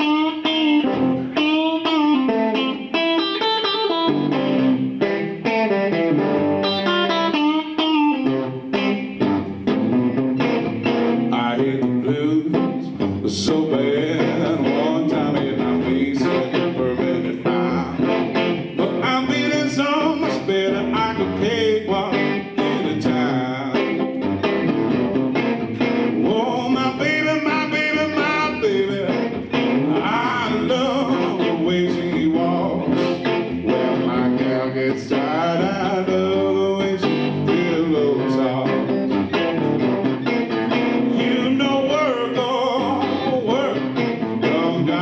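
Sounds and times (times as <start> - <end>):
electric guitar accompaniment: 0.0 - 45.0.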